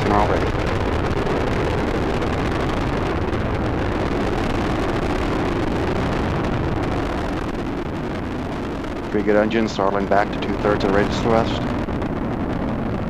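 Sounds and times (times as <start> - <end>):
rocket launch low rumble: 0.0 - 13.0.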